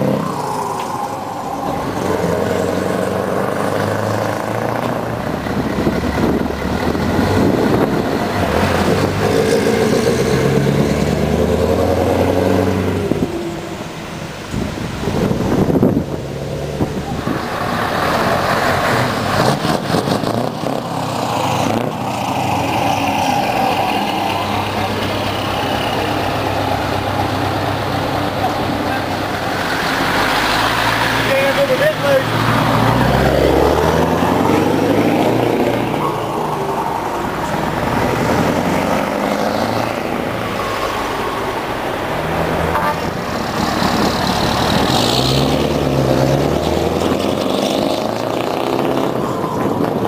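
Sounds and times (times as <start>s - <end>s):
diesel truck engine running: 0.0s - 50.0s
road and tyre noise: 0.0s - 50.0s.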